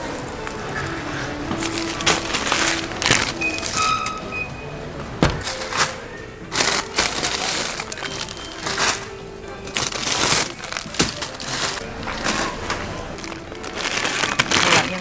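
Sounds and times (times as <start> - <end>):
plastic packaging crinkling: 0.0 - 4.2, 5.4 - 15.0
background music: 0.0 - 15.0.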